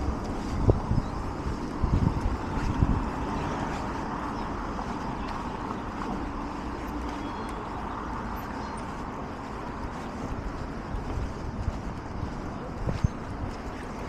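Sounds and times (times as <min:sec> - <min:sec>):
low engine hum: 0:00.0 - 0:14.0
road traffic noise: 0:00.0 - 0:14.0.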